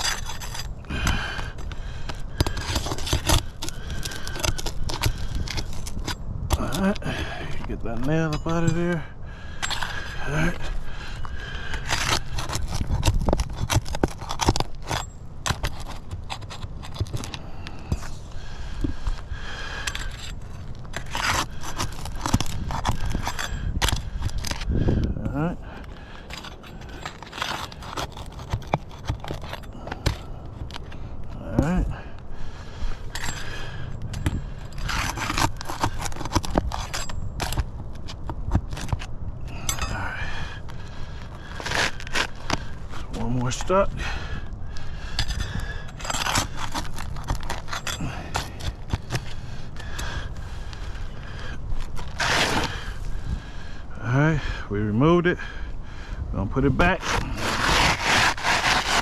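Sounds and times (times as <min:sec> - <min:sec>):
roof shingles scraping and crackling: 0:00.0 - 0:24.7, 0:25.6 - 0:33.8, 0:34.4 - 0:53.8, 0:56.5 - 0:59.0.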